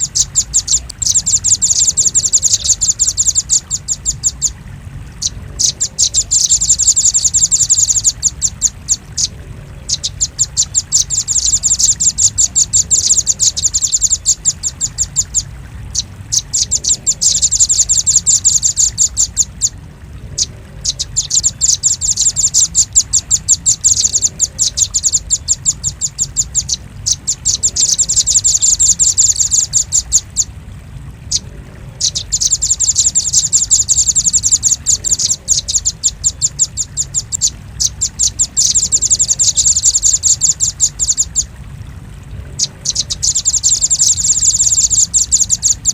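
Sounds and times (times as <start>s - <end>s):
bird chipping calls: 0.0s - 30.5s, 31.3s - 41.6s, 42.5s - 45.9s.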